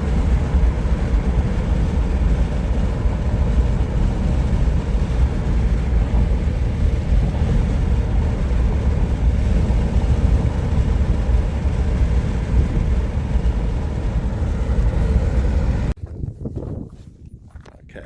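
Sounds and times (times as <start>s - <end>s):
car road and wind noise: 0.0s - 18.0s.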